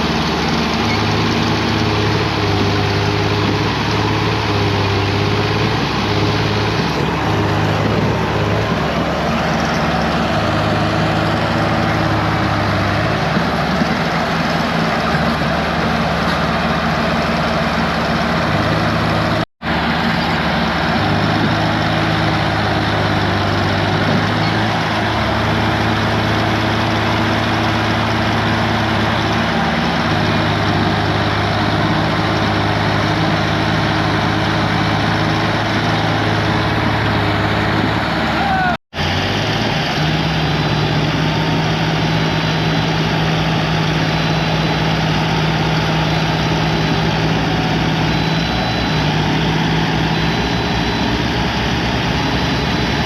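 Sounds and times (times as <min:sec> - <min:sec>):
tractor diesel engines straining: 0:00.0 - 0:53.0.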